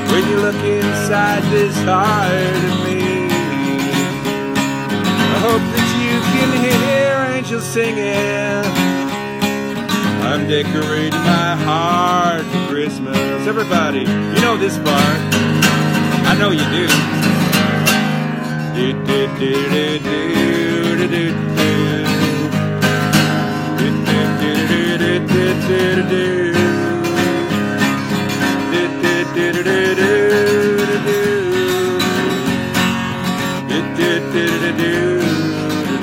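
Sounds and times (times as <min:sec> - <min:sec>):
acoustic guitar strumming: 0:00.0 - 0:36.0
wordless vocal melody: 0:00.0 - 0:36.0.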